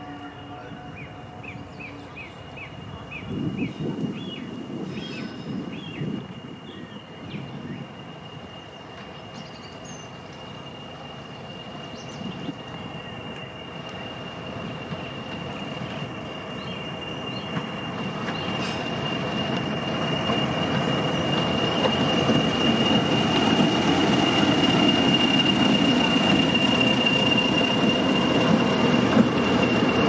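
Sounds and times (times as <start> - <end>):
diesel train rumbling: 0.0 - 30.0.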